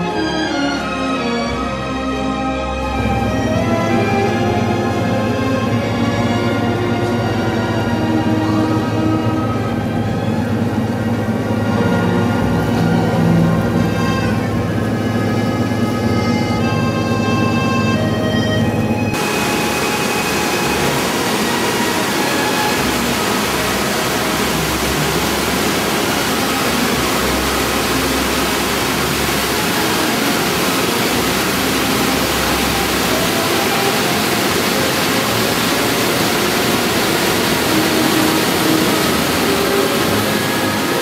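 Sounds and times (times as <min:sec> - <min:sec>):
music: 0:00.0 - 0:41.0
water rushing over spillway: 0:02.8 - 0:17.1, 0:19.1 - 0:41.0.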